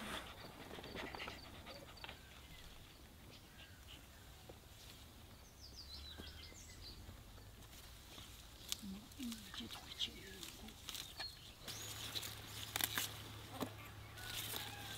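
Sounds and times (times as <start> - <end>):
animals rustling in greenery: 0.0 - 5.6, 6.2 - 14.9.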